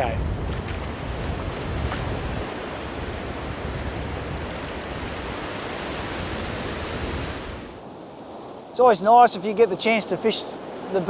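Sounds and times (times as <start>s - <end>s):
foaming wash over sand: 0.0s - 11.0s
waves breaking: 0.0s - 11.0s.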